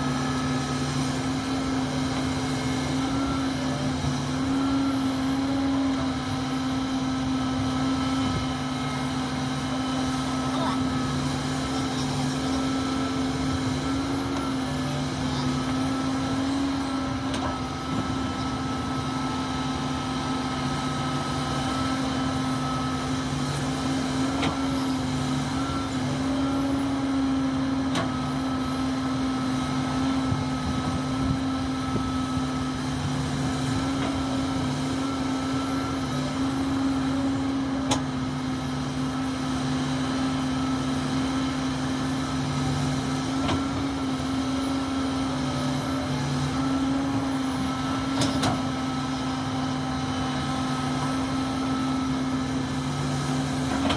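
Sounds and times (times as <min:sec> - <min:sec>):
diesel engine droning: 0:00.0 - 0:53.9.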